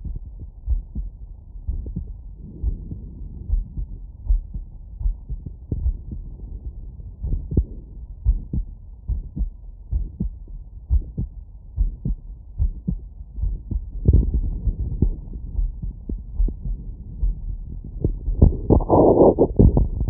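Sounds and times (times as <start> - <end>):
heartbeat thuds: 0.0 - 20.0.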